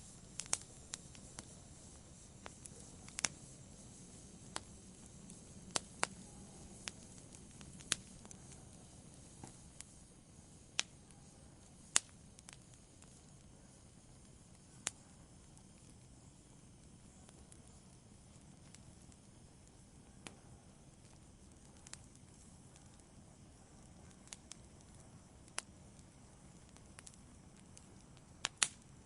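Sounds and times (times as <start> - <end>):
campfire crackles and pops: 0.0 - 29.0
campfire hiss: 0.0 - 29.0.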